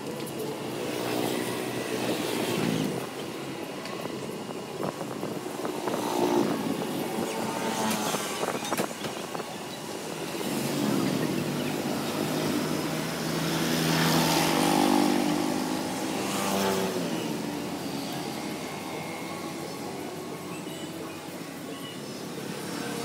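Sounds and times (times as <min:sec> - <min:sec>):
motorcycles passing: 0:00.0 - 0:23.0.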